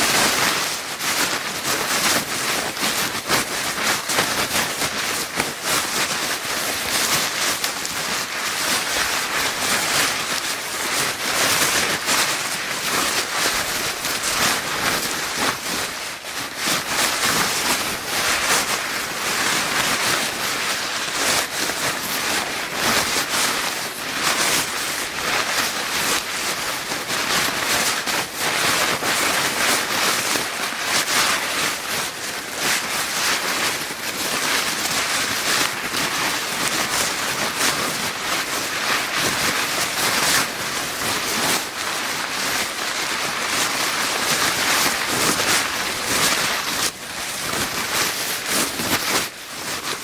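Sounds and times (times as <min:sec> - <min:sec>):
paper bag crinkling: 0:00.0 - 0:50.0.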